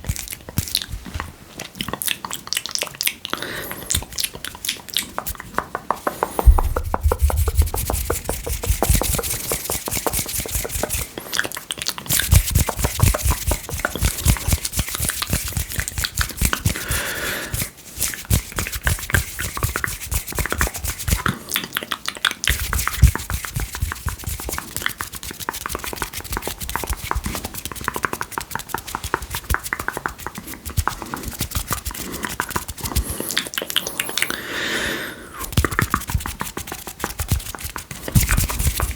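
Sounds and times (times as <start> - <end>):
wet mouth clicks and smacks: 0.0 - 34.4, 35.4 - 38.9.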